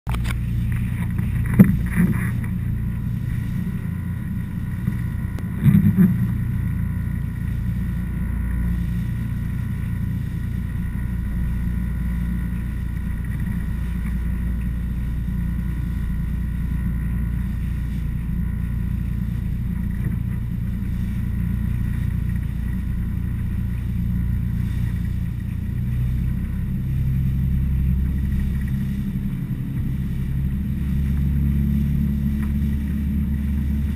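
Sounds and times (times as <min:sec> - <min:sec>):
boat engine drone: 0:00.0 - 0:33.9
water rushing along hull: 0:00.1 - 0:33.9.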